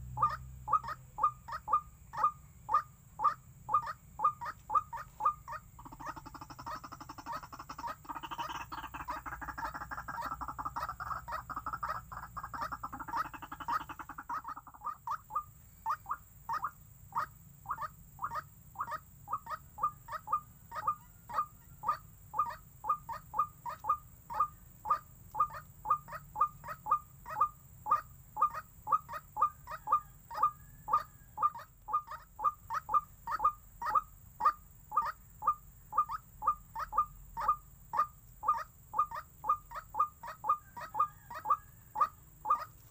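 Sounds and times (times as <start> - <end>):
waterhen calling: 0.0 - 42.9.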